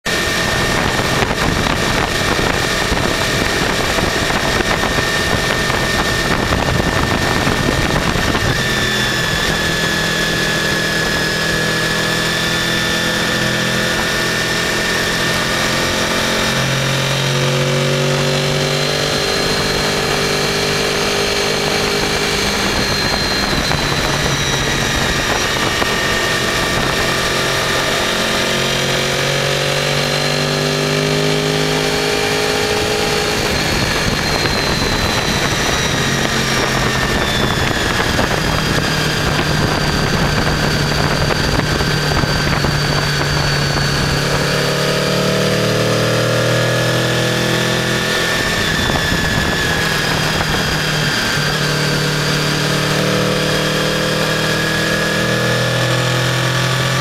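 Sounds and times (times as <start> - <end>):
heavy wind rush: 0.0 - 57.0
motorcycle engine: 0.0 - 57.0.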